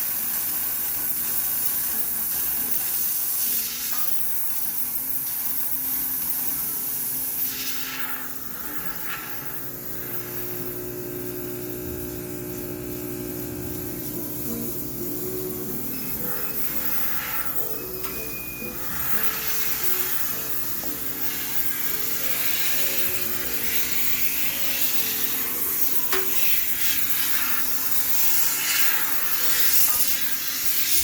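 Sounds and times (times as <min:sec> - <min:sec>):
steam cleaner hissing: 0:00.0 - 0:31.0
multi-tone hum: 0:04.8 - 0:30.7.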